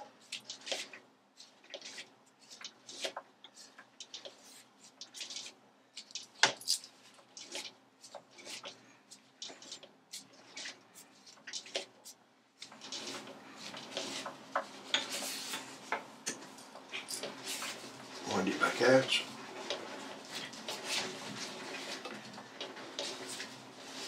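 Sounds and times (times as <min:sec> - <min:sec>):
metallic clicks and scraping: 0:00.0 - 0:24.0.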